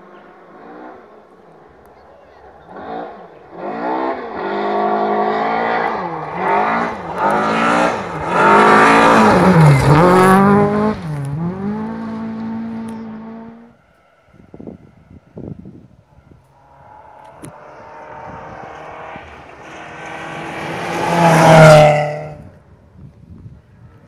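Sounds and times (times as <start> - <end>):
rally car engine revving: 0.0 - 13.8, 16.5 - 22.6.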